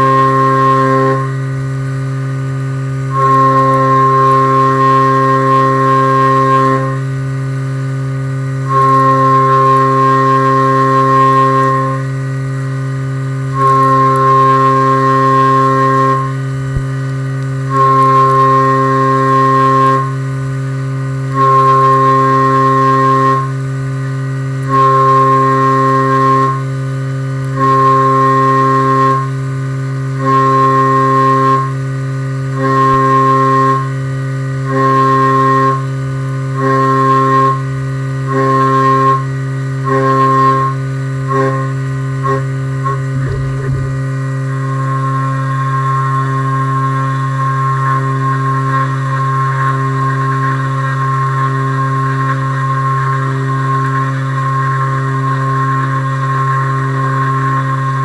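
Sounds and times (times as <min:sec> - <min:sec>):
end mill cutting whine: 0:00.0 - 0:58.0
mill spindle humming: 0:00.0 - 0:58.0.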